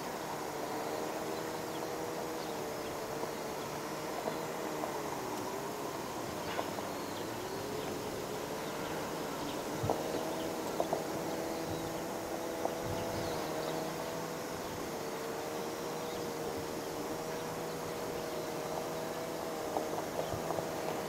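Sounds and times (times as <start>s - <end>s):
distant jet engines idling: 0.0s - 21.0s.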